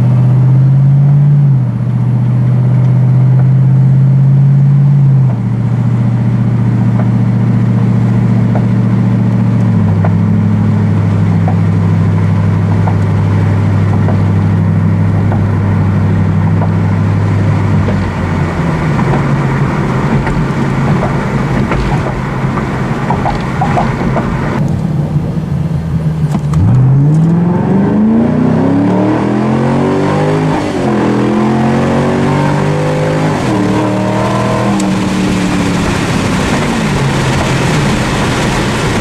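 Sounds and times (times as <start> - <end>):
car exhaust note: 0.0 - 39.0
road and wind noise: 0.0 - 39.0.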